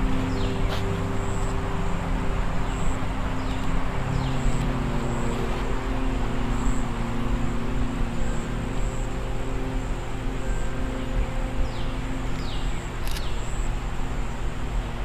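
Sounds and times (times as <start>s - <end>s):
low drone of held tones: 0.0s - 15.0s.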